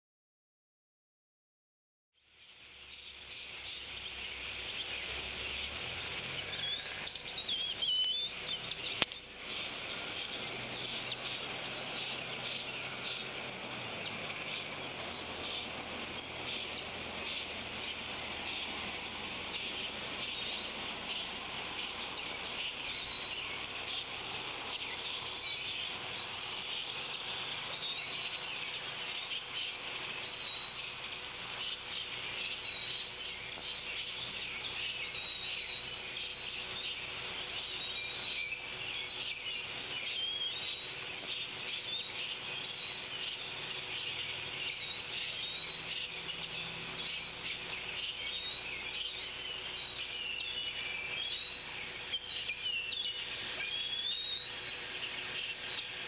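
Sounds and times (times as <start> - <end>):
high bird chirps: 2.2 - 56.0
high insect drone: 3.0 - 56.0.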